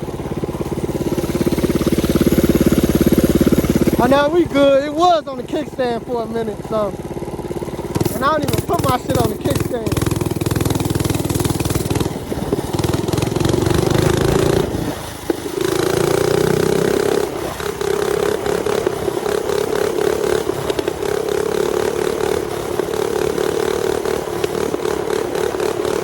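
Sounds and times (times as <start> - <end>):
small bike engine running: 0.0 - 26.0.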